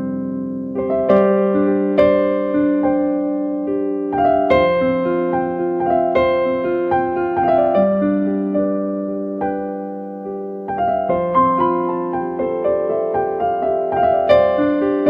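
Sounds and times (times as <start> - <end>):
soft piano-like chords: 0.0 - 15.0.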